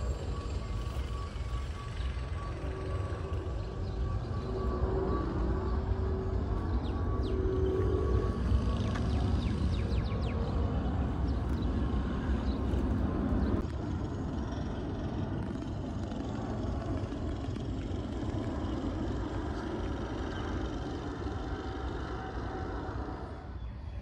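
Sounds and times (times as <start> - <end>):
distant engine rumble: 0.0 - 24.0.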